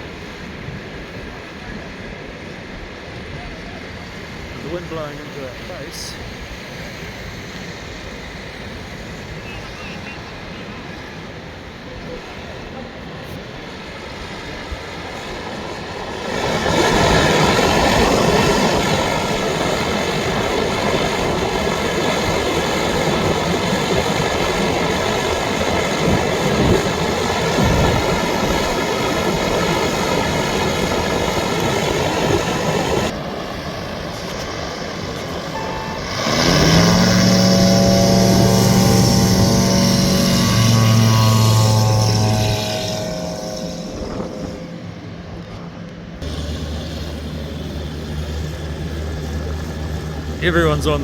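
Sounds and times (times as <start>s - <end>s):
propeller aircraft engines: 0.0s - 51.0s
aircraft engine revving up: 2.4s - 51.0s.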